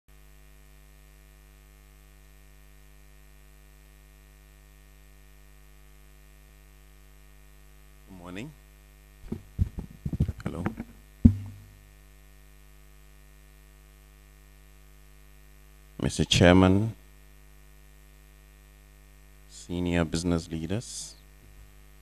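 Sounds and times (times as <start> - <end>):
electrical mains hum: 0.1 - 22.0.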